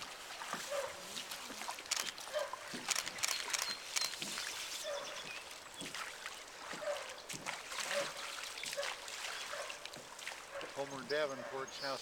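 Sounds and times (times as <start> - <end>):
river water splashing: 0.0 - 11.6.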